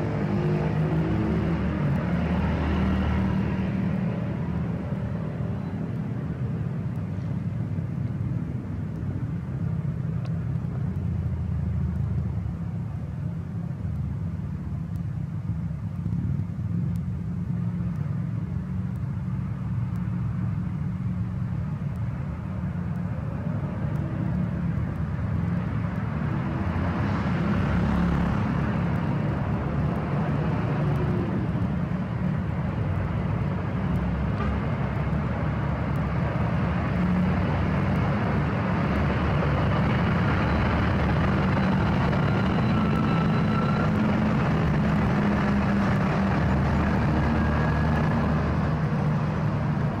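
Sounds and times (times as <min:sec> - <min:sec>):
road traffic: 0:00.0 - 0:50.0
truck diesel engines rumbling: 0:00.0 - 0:50.0.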